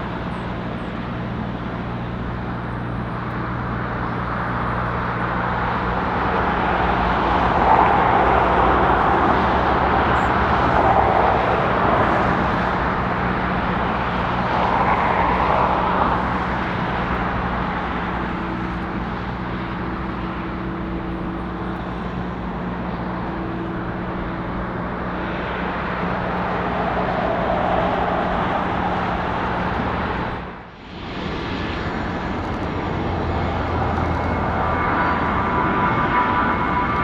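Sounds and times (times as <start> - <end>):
jet engines humming and whining: 0.0 - 37.0.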